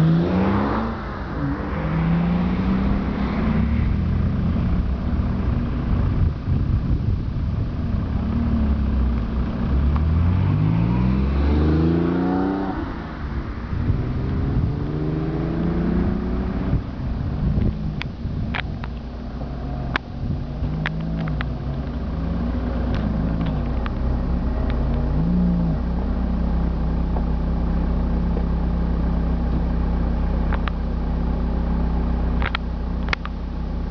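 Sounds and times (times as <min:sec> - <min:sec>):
car engine accelerating: 0:00.0 - 0:33.9
car engines running: 0:00.0 - 0:33.9.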